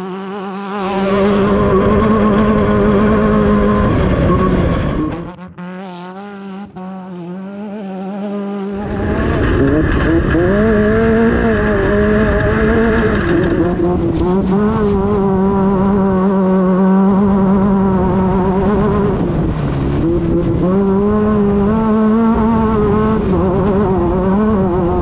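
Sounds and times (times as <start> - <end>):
race car engine revving: 0.0 - 25.0.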